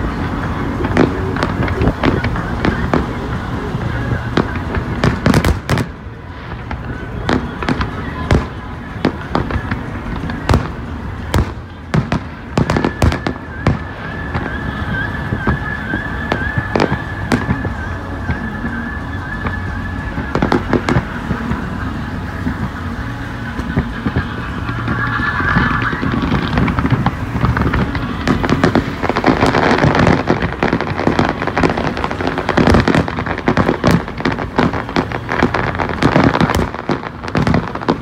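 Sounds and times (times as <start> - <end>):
car road noise: 0.0 - 38.0
firework bangs and crackles: 0.0 - 38.0.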